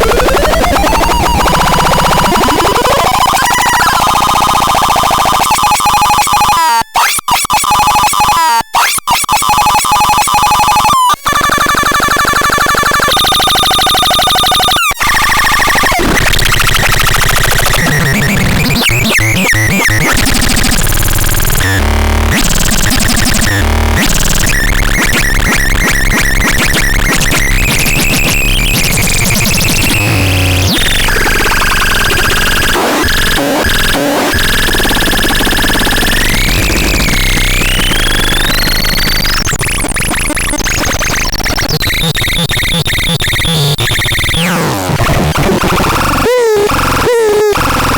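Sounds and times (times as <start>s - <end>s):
harsh buzzing synthesizer: 0.0s - 5.6s, 9.3s - 47.9s.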